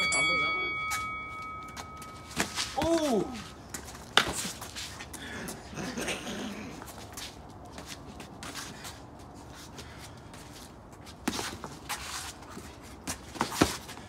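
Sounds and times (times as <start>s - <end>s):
feet shuffling on concrete: 0.8s - 5.9s, 6.7s - 14.0s.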